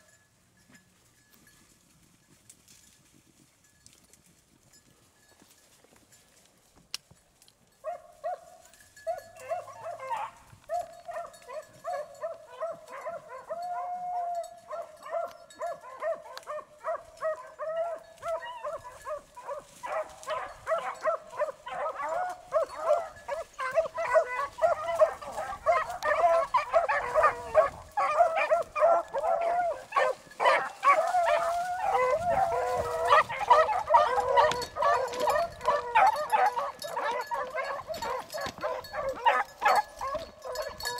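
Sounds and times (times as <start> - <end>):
pack of dogs baying: 7.8 - 40.9.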